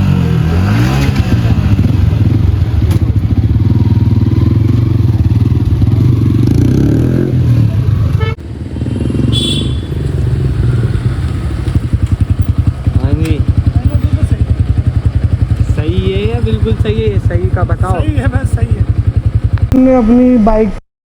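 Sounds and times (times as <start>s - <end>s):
motorcycle engine running: 0.0s - 20.3s.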